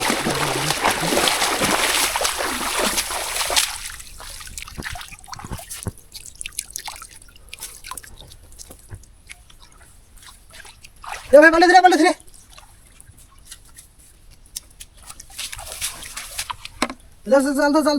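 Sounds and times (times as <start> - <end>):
shallow water splashing: 0.0 - 17.2
water dripping: 0.0 - 17.3.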